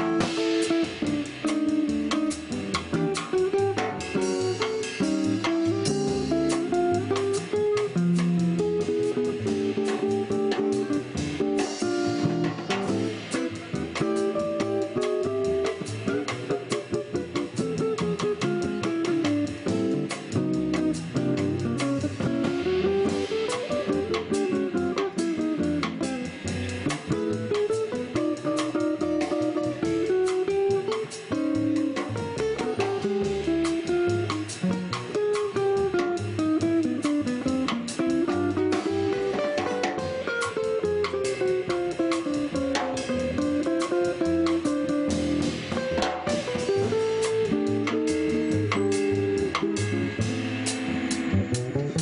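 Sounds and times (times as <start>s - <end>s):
acoustic guitar melodic runs: 0.0s - 52.0s
drum kit cymbals: 0.0s - 52.0s
upright bass: 0.0s - 52.0s.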